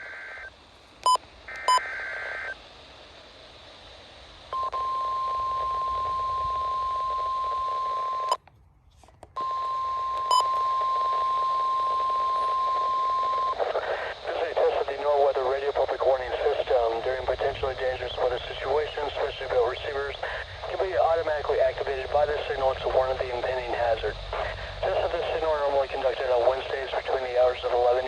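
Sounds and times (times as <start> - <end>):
radio hiss: 0.0 - 8.4, 9.4 - 28.0.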